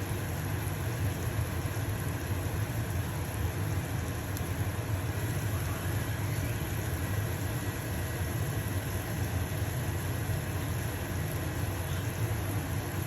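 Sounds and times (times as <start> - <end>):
pancake sizzling in a pan: 0.0 - 13.0
range hood fan humming: 0.0 - 13.0.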